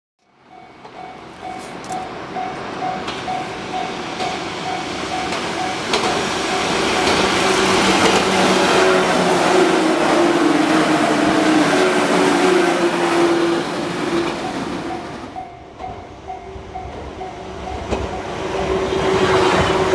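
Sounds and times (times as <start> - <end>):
level-crossing warning bell: 0.3 - 19.4
electric train passing: 0.3 - 19.9.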